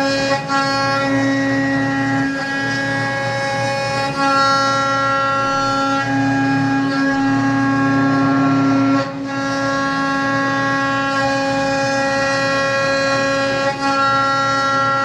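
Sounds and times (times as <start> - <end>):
milling machine motors whining: 0.0 - 15.0.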